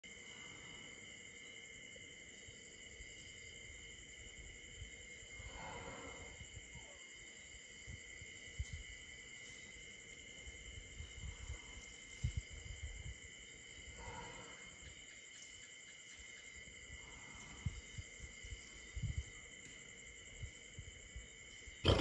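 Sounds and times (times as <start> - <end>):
night insects trilling: 0.0 - 22.0.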